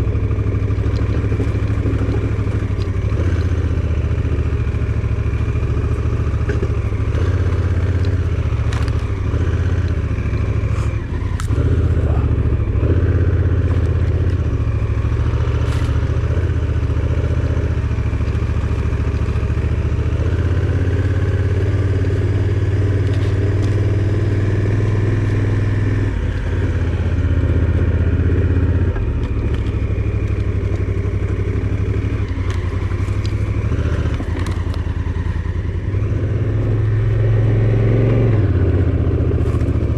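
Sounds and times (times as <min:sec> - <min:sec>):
vehicle engine drone: 0:00.0 - 0:39.9
vehicle rattles and knocks: 0:00.0 - 0:39.9.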